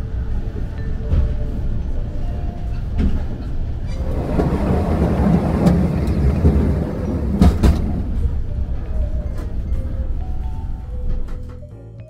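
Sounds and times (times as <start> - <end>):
wheels rumbling on rails: 0.0 - 11.7.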